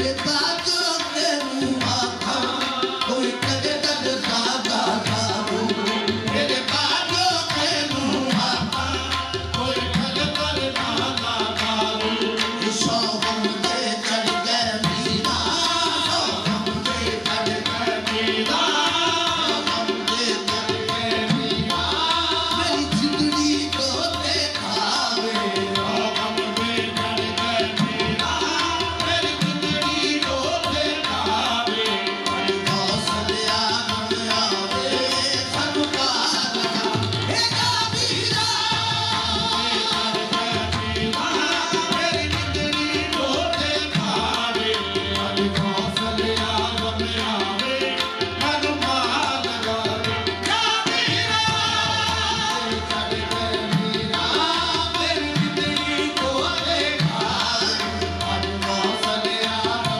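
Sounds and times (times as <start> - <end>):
harmoniums: 0.0 - 59.9
singers and chorus: 0.0 - 59.9
tabla: 0.0 - 59.9.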